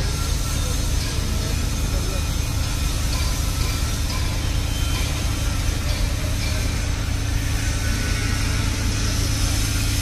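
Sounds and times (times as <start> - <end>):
heavy machinery engine drone: 0.0 - 10.0.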